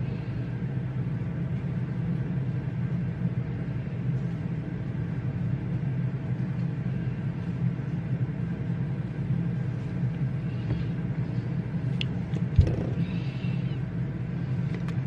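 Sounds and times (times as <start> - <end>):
reading room background hum: 0.0 - 15.0.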